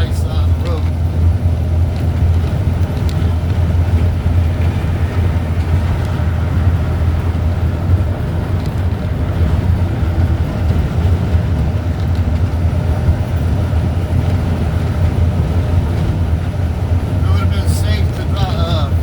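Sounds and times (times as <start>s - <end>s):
deep wind rumble: 0.0s - 19.0s.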